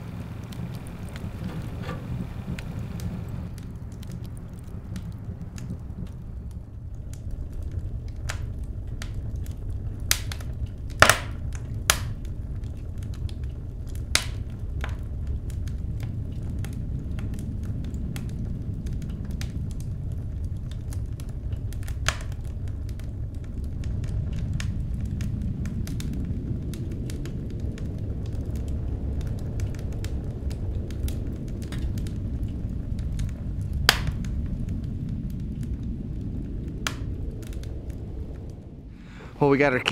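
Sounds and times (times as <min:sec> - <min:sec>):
low rumble: 0:00.0 - 0:39.9
wood fire crackling and popping: 0:00.0 - 0:39.9.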